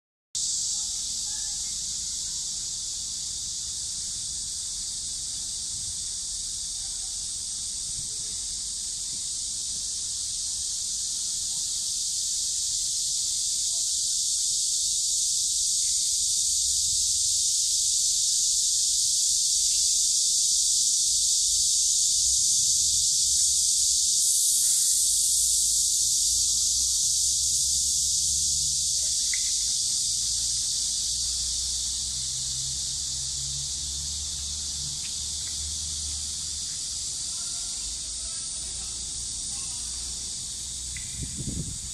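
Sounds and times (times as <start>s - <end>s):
high-pitched insect drone: 0.4s - 41.9s.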